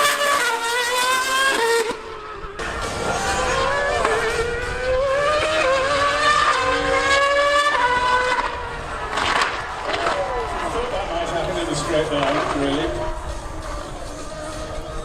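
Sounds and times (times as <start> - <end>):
racing engine revving: 0.0 - 15.0.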